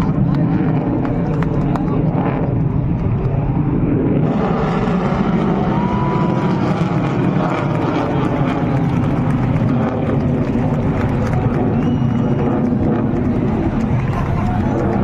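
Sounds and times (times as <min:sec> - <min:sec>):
aircraft engine rushing: 0:00.0 - 0:15.0.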